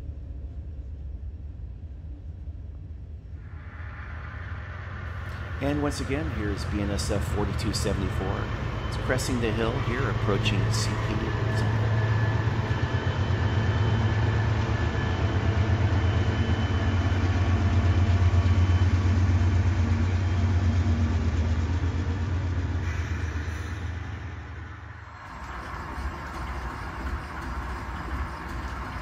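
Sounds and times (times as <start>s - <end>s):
diesel locomotive rumble: 3.5s - 29.0s.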